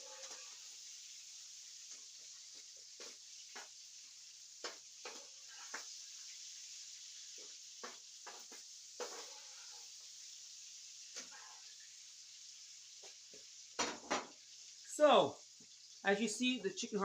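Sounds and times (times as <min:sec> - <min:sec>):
meat sizzling in oil: 0:00.0 - 0:17.0
oil popping and crackling: 0:00.0 - 0:17.0.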